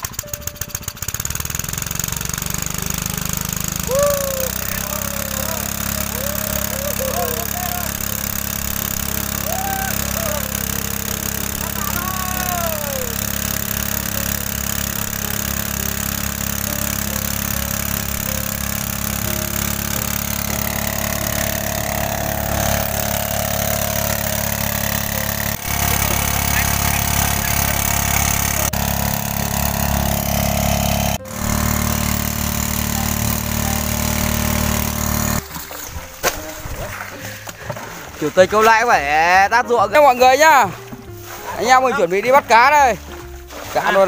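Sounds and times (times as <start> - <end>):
small petrol pump engine running: 0.0 - 35.6, 37.0 - 44.0.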